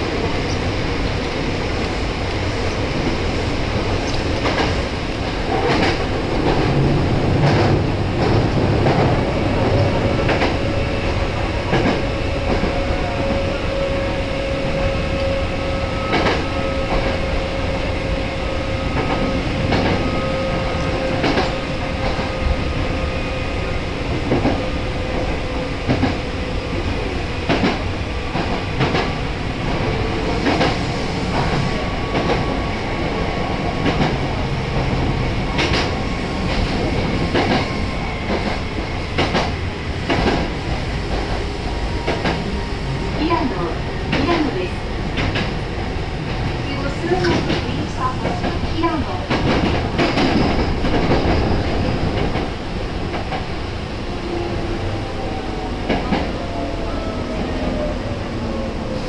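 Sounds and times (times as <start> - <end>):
electric train rumble: 0.0 - 59.0
steady train tone: 0.0 - 59.0.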